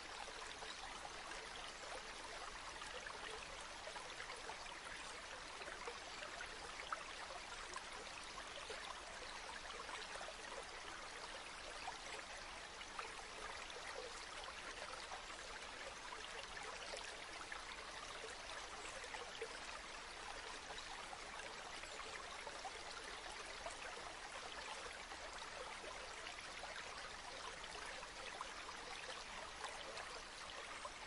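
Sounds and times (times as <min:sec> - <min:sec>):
river water flowing: 0:00.0 - 0:31.0.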